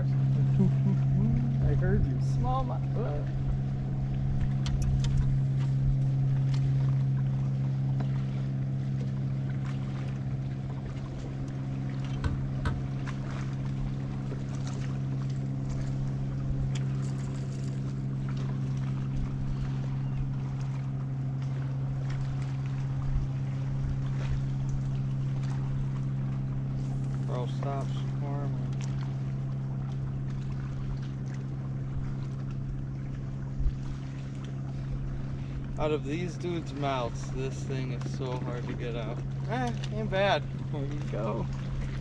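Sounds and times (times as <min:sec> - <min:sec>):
boat motor humming: 0:00.0 - 0:42.0.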